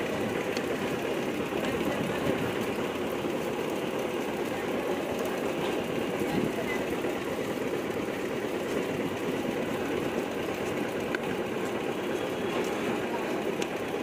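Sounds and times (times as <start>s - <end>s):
machinery rumble: 0.0s - 14.0s.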